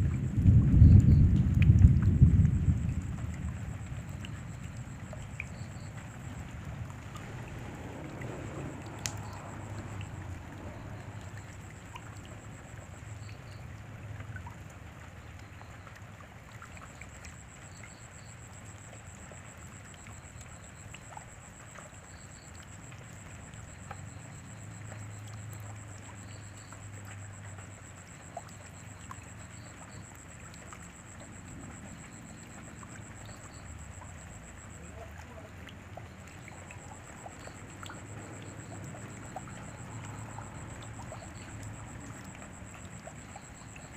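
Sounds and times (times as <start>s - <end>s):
rain falling: 0.0s - 43.9s.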